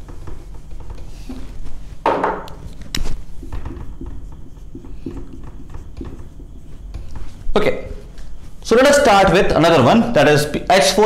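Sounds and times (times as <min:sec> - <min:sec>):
marker scratching on whiteboard: 0:00.0 - 0:09.6
rustling: 0:00.0 - 0:09.6.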